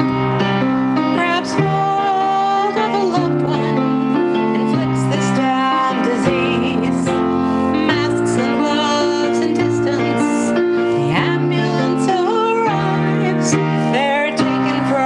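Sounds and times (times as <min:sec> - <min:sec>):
piano chords: 0:00.0 - 0:15.0
woman singing: 0:01.0 - 0:15.0.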